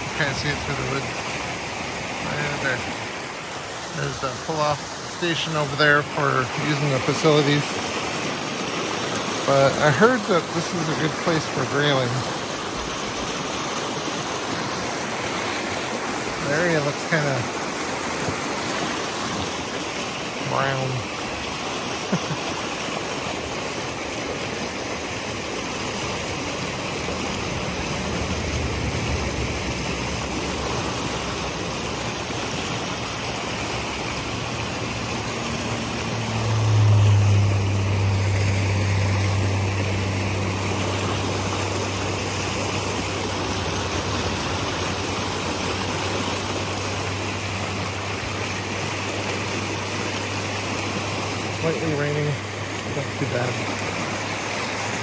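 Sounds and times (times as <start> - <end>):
low engine hum: 0.0 - 55.0
water rushing over rocks: 0.0 - 55.0.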